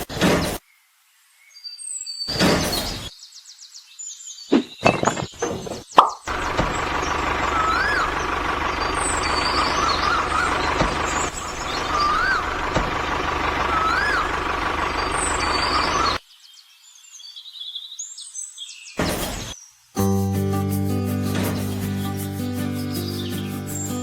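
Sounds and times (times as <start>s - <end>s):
bird chirps: 1.5s - 20.1s, 21.2s - 24.0s.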